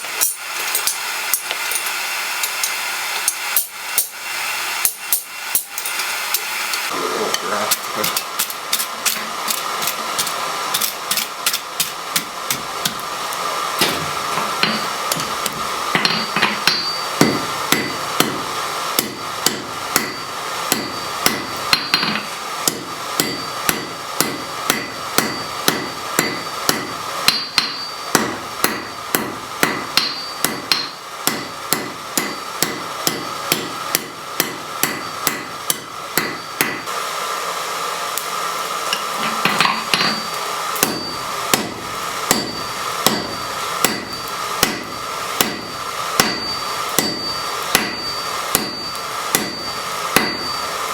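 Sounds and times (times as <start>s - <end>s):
hammer striking metal on anvil: 0.0s - 4.2s, 7.7s - 13.0s, 13.8s - 36.9s, 38.9s - 50.7s
steady hum: 0.0s - 50.9s.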